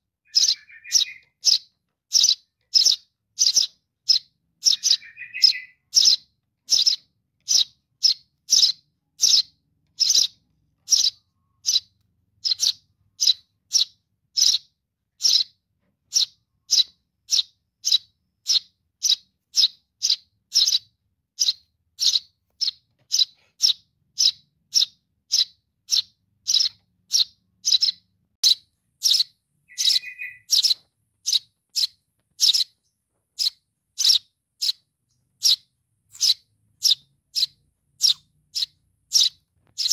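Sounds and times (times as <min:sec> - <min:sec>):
sparrow chick chirping: 0:00.0 - 0:39.9.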